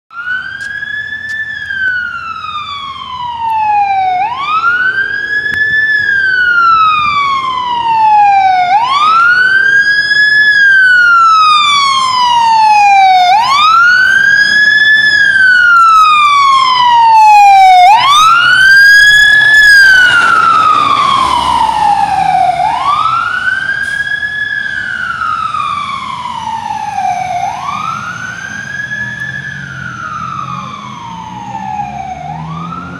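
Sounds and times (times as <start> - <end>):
fire engine siren wailing: 0.1 - 32.9
rapid high siren tones: 0.1 - 32.9.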